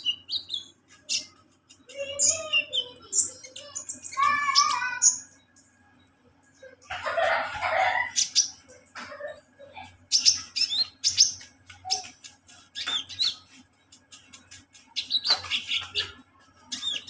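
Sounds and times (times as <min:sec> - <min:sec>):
sunbird chirping and twittering: 0:00.0 - 0:17.0.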